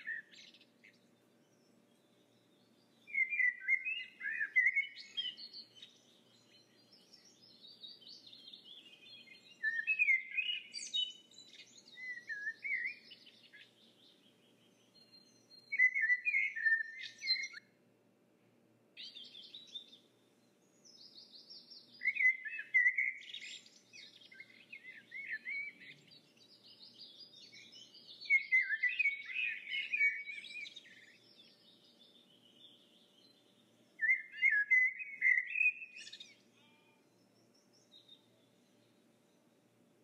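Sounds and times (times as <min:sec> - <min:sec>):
songbird warbling chirps: 0:00.0 - 0:17.6, 0:19.0 - 0:39.6.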